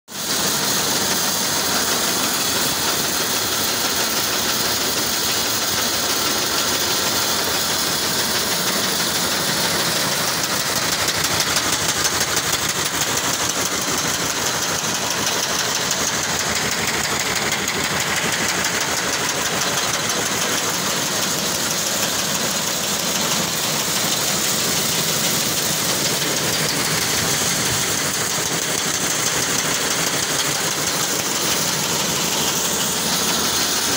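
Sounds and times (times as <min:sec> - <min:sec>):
seed cleaner machine running: 0:00.1 - 0:33.9.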